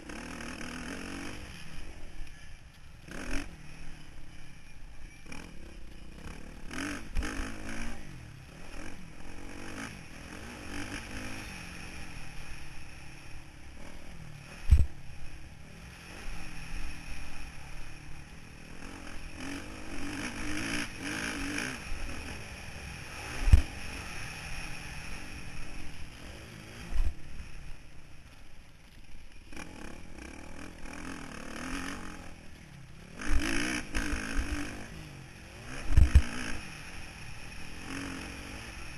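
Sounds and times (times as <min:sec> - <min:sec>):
motocross bike engine revving: 0:00.0 - 0:28.4, 0:29.3 - 0:38.9.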